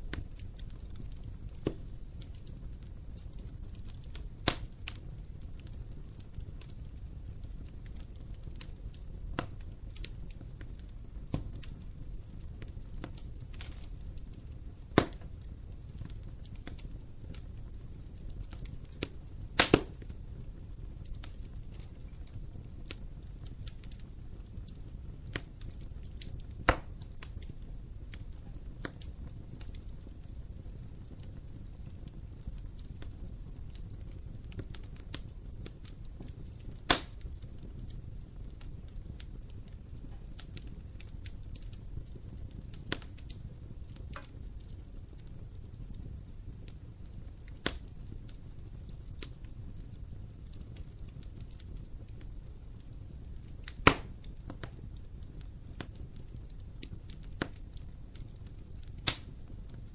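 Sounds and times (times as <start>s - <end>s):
fire crackles and pops: 0.0s - 59.9s
flames rumbling in fireplace: 0.0s - 59.9s.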